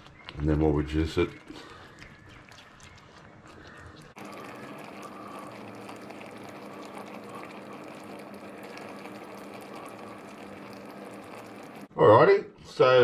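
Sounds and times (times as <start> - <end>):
sauce simmering and bubbling: 1.1 - 11.9.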